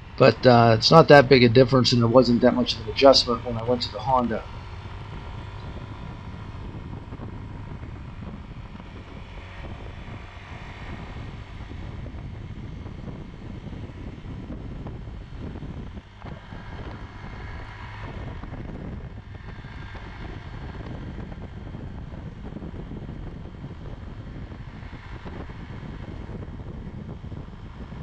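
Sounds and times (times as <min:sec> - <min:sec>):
scooter engine running: 0:00.0 - 0:28.0
wind on microphone: 0:00.0 - 0:28.0.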